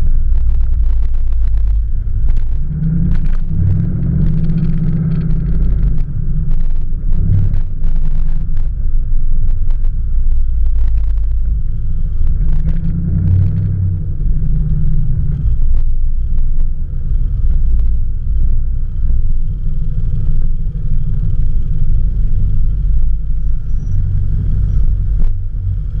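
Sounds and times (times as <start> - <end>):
car engine deep rumble: 0.0 - 26.0.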